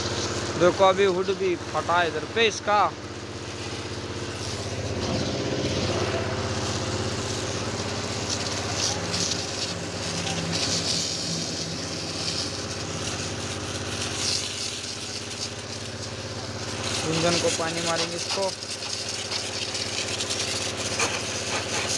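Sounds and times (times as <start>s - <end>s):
motor droning: 0.0s - 21.9s
pressure water jet hissing: 0.0s - 21.9s.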